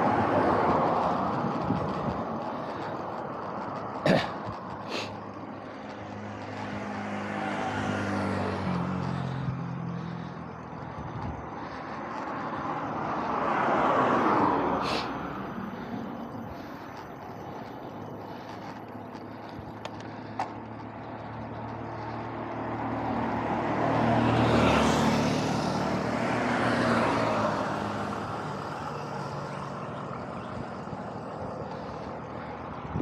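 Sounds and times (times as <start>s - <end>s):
vehicle engine: 0.0s - 33.0s.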